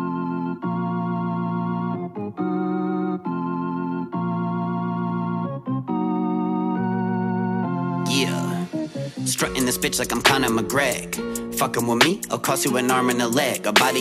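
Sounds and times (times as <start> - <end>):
organ-like keyboard chords: 0.0 - 14.0.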